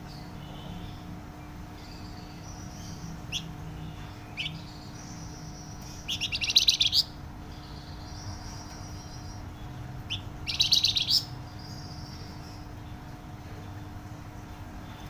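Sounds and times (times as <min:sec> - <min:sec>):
songbird singing whistles and trill: 0:00.0 - 0:12.7.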